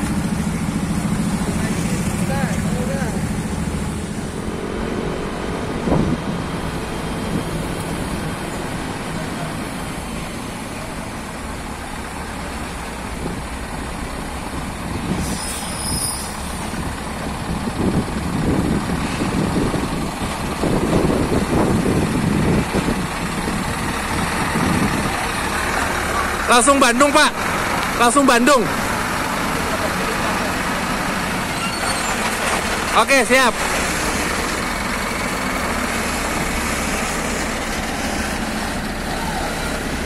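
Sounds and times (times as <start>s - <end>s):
road noise: 0.0s - 40.0s
truck engine: 0.0s - 40.0s.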